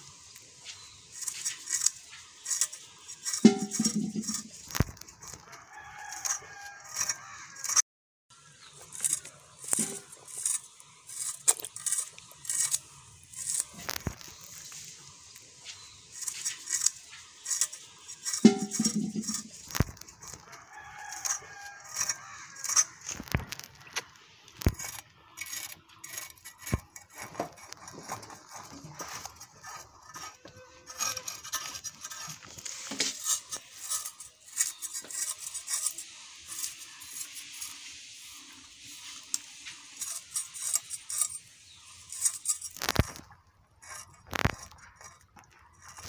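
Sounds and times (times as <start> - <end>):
knife scraping fish scales: 0.7 - 7.8, 8.8 - 14.9, 15.7 - 23.6, 24.6 - 46.0.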